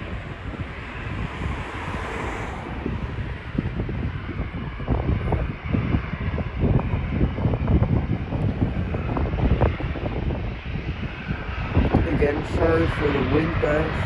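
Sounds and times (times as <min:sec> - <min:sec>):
jet engines roaring: 0:00.0 - 0:14.0
wind buffeting microphone: 0:00.0 - 0:14.0.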